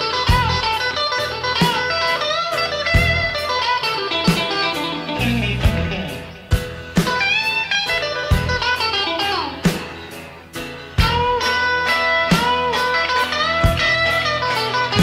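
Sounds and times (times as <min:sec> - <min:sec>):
blues-rock electric guitar music: 0:00.0 - 0:15.0.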